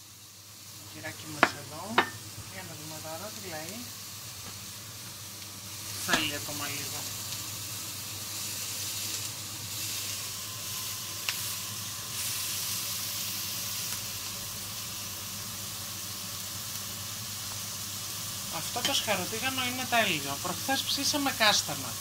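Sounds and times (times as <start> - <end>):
meat patty sizzling in grill pan: 0.0 - 22.0.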